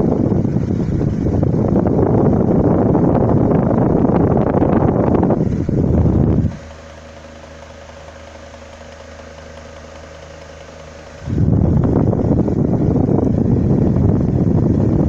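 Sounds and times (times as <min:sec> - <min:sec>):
electric fan motor hum: 0:00.0 - 0:15.0
fan air buffeting microphone: 0:00.0 - 0:15.0.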